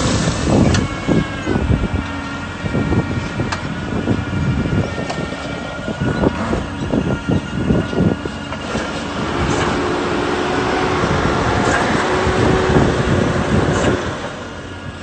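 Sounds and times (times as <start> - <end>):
harvester machine humming: 0.0 - 15.0.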